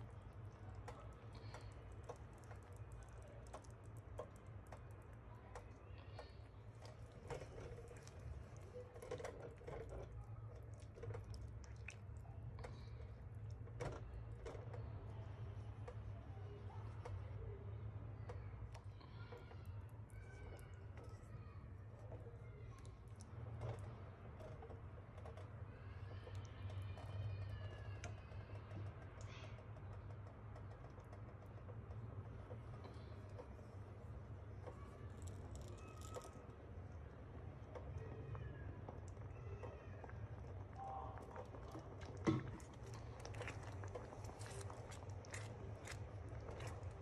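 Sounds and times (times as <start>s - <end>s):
spatula stirring thick sauce: 0.0s - 16.3s, 18.6s - 47.0s
faint low hum: 0.0s - 47.0s.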